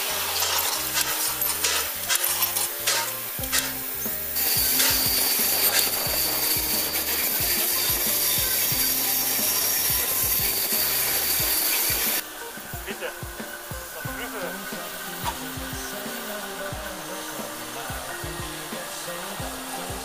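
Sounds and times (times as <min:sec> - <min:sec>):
diesel locomotive running: 0:00.0 - 0:20.0
steam train rushing: 0:00.0 - 0:20.0
wheels clattering over rails: 0:00.0 - 0:20.0.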